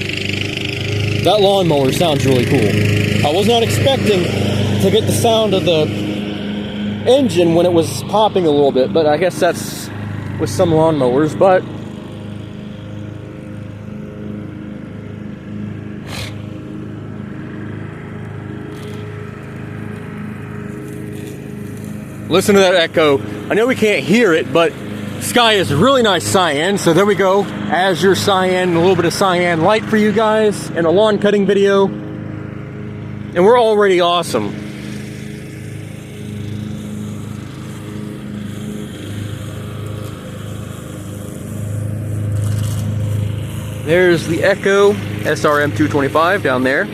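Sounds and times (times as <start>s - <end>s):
riding lawn mower engine: 0.0s - 46.9s.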